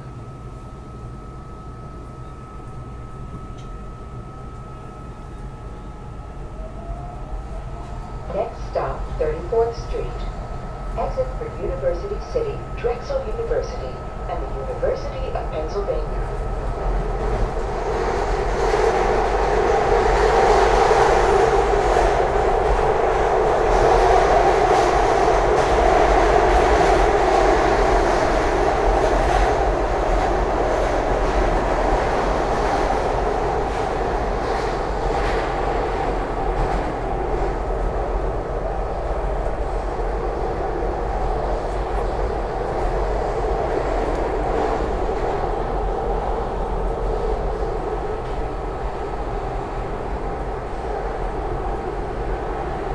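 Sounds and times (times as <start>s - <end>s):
subway wheels rumbling on rail: 0.0s - 52.9s.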